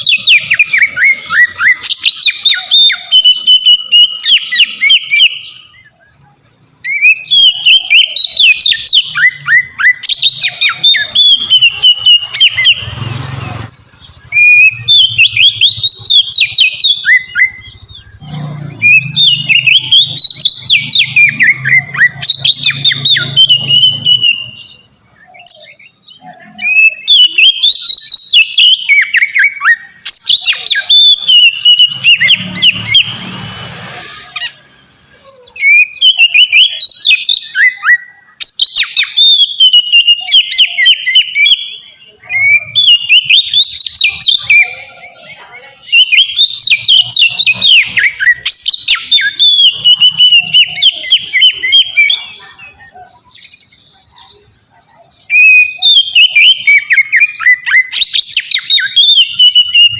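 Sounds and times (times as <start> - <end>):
songbird whistling and trilling: 0.0 - 59.9.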